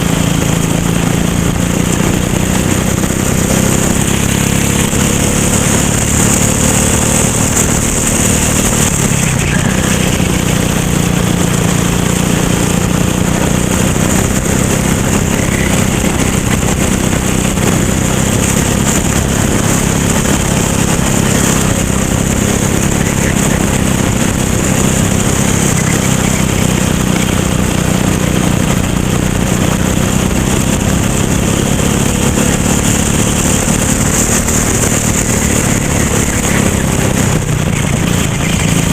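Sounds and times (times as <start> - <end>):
racing kart engine: 0.0 - 38.9.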